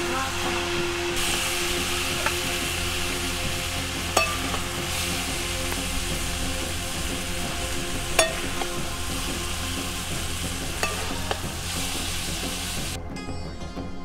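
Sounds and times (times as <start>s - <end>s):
cabbage sizzling in a pan: 0.0s - 13.0s.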